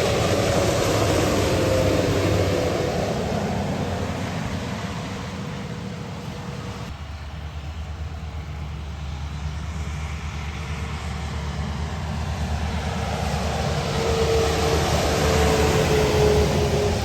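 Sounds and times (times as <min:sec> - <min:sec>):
truck engine rumble: 0:00.0 - 0:17.0
truck whine: 0:00.0 - 0:17.0.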